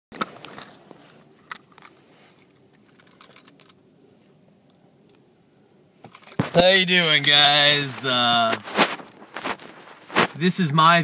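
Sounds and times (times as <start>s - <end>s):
low steady hum: 0.1s - 11.0s.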